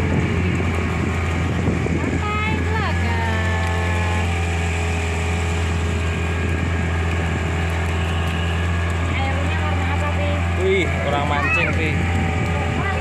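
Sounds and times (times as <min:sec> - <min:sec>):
boat engine low drone: 0:00.0 - 0:13.0.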